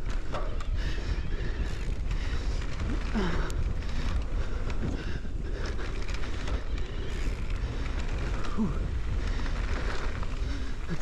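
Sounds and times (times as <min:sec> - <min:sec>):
bike knocks and rattles: 0:00.0 - 0:11.0
wind buffeting microphone: 0:00.0 - 0:11.0.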